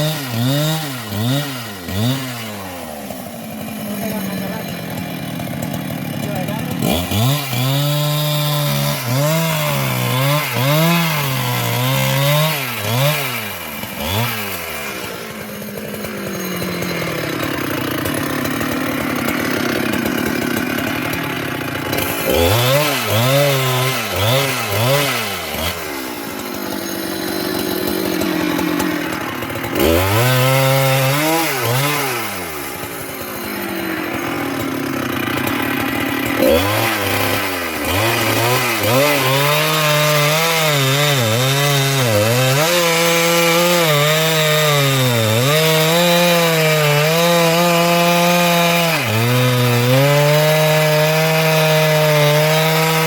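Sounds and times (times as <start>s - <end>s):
chainsaw cutting wood: 0.0s - 53.0s
chainsaw throttle revving: 0.0s - 53.0s.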